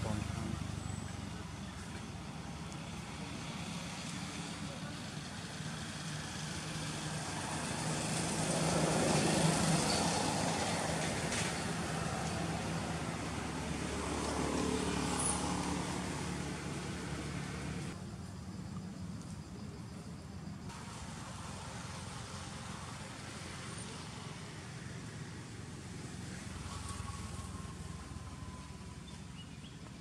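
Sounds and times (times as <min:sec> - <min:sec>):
traffic engine drone: 0:00.0 - 0:30.0.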